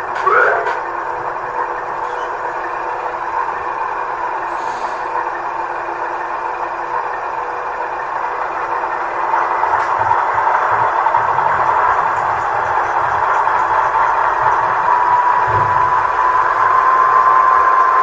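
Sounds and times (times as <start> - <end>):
diesel engine sound through small speaker: 0.0 - 18.0.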